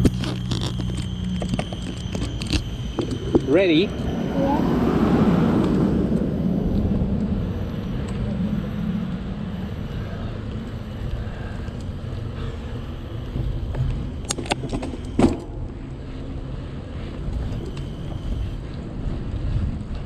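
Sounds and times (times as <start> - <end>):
bicycle rolling on pavement: 0.0 - 20.0.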